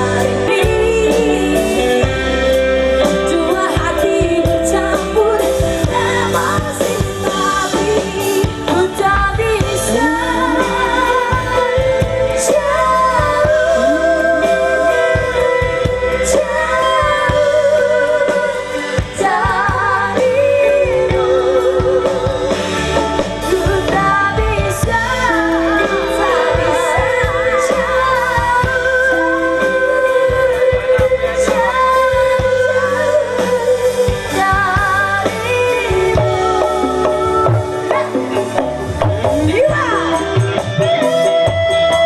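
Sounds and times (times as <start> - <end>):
live band playing: 0.0 - 42.0
vocalist singing with vibrato: 0.0 - 42.0.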